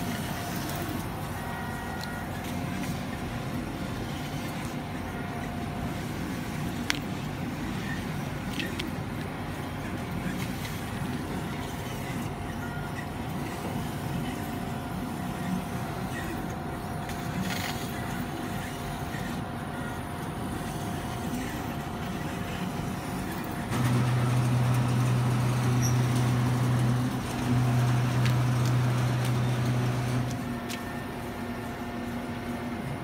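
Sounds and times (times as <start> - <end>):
laser cutter mechanical hum: 0.0 - 33.0.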